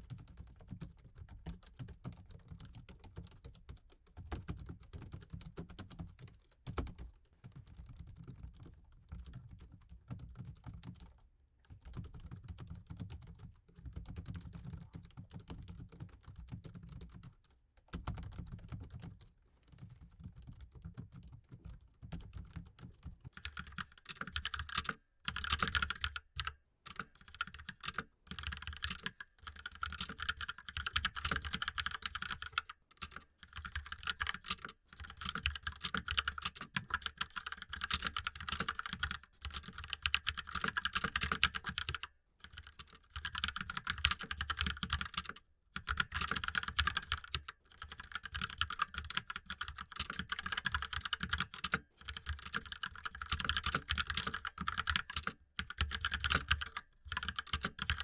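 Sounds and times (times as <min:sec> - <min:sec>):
laptop keyboard typing: 0:00.0 - 0:58.0.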